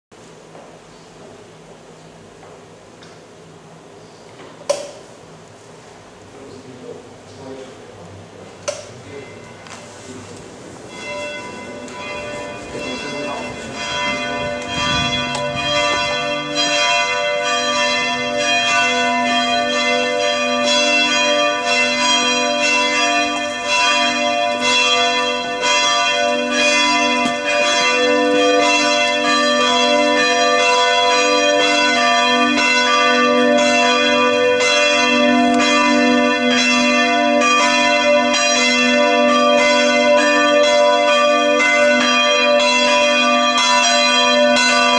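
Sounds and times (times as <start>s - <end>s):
church bells pealing: 8.8s - 44.9s.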